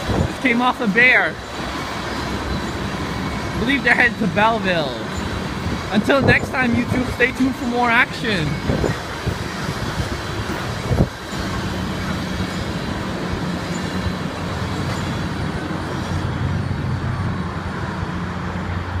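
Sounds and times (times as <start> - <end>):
background traffic: 0.0 - 19.0.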